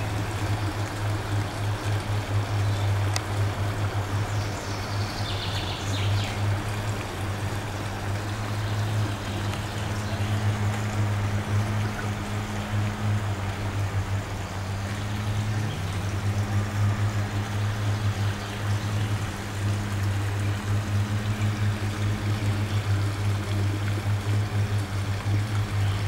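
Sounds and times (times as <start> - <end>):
steady low hum: 0.0 - 26.0
water trickling over stone weir: 0.0 - 26.0.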